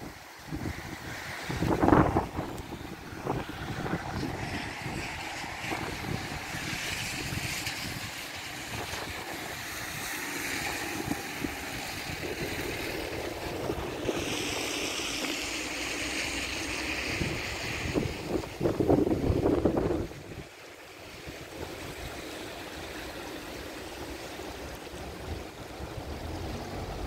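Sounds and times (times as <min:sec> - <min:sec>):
floodwater rushing down a stream: 0:00.0 - 0:27.0
wind buffeting microphone: 0:00.0 - 0:27.0.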